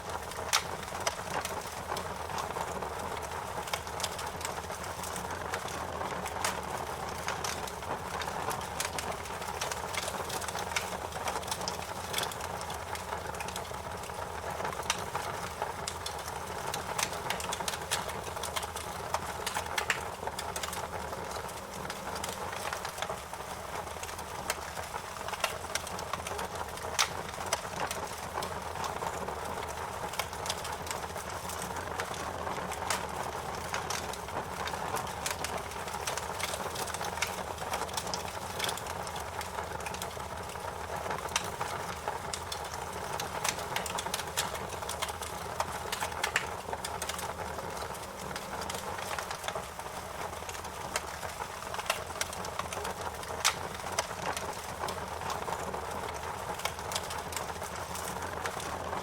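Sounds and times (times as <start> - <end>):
burning wood crackling and popping: 0.0 - 59.0
campfire flames rushing: 0.1 - 59.0.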